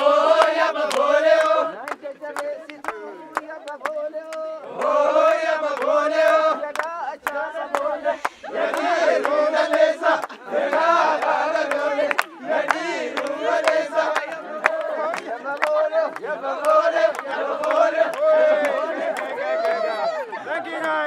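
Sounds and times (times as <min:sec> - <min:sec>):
group chanting and singing: 0:00.0 - 0:21.0.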